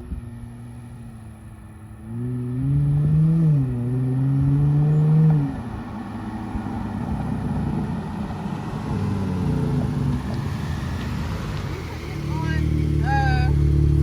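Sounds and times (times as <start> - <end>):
car engine accelerating hard: 0.0 - 14.0
exhaust rumble: 0.0 - 14.0.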